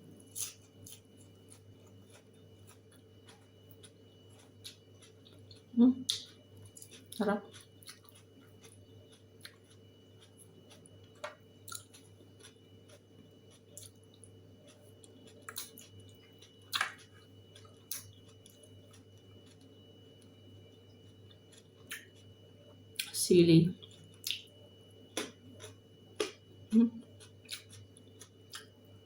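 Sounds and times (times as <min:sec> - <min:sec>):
faint steady hum: 0:00.0 - 0:29.0
person chewing food: 0:00.1 - 0:23.2, 0:23.8 - 0:29.0.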